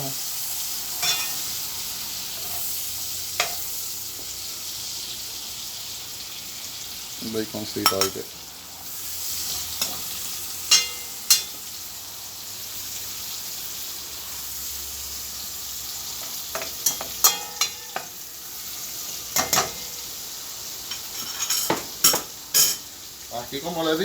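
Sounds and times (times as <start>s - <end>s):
onion sizzling in grease: 0.0s - 24.0s.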